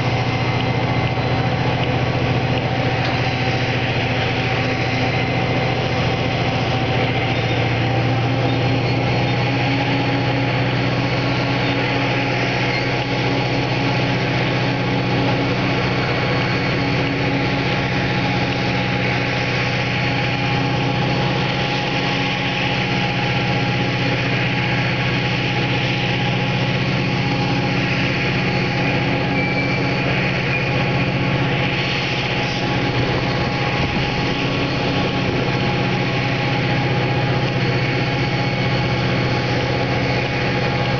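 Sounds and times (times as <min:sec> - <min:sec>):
diesel locomotive engine droning: 0:00.0 - 0:40.9.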